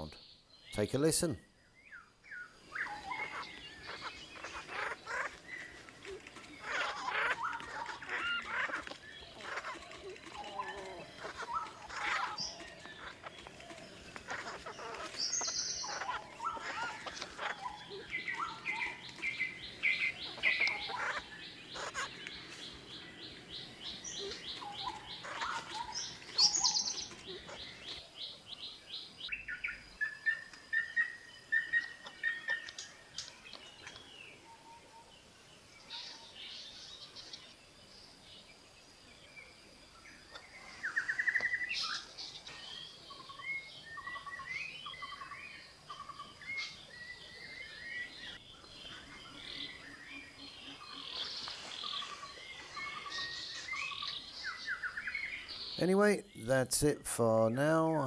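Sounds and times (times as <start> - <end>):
birds chirping and whistling: 1.4 - 37.5, 40.1 - 56.4
pheasants squeaking and clucking: 2.4 - 35.1, 40.1 - 56.2.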